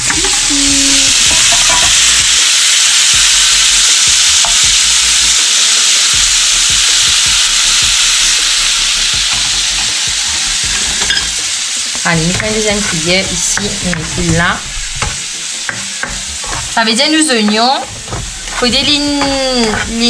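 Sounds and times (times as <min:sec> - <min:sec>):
shrimp sizzling in hot oil: 0:00.0 - 0:20.0.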